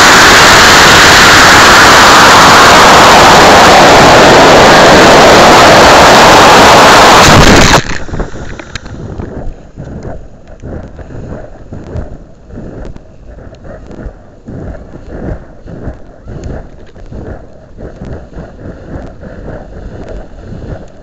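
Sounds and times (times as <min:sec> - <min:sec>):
gusty wind buffeting microphone: 0:00.0 - 0:21.0
loud rushing wind noise: 0:00.0 - 0:21.0.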